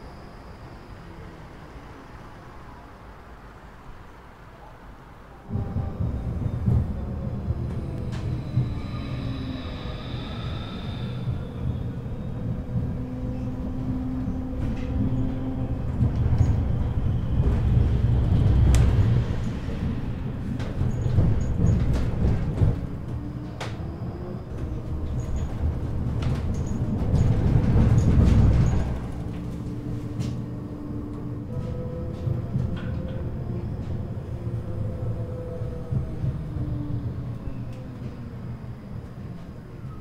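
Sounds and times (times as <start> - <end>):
tram wheels and motors rumbling: 0.0 - 40.0.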